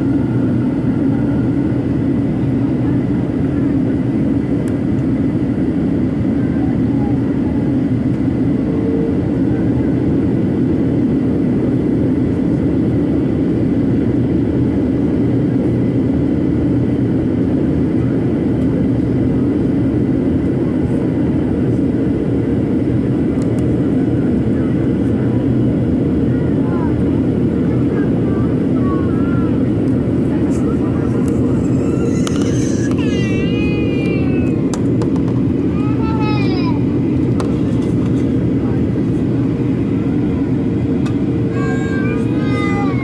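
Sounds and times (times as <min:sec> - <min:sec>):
airplane cabin engine rumble: 0:00.0 - 0:43.0.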